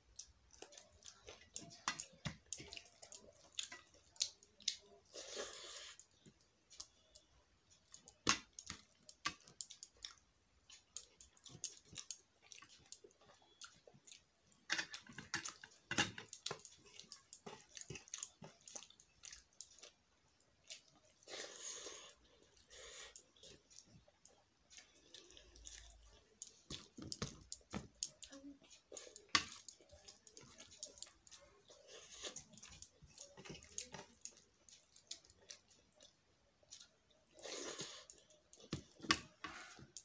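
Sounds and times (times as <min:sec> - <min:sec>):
chewing and smacking: 0:00.0 - 0:40.0.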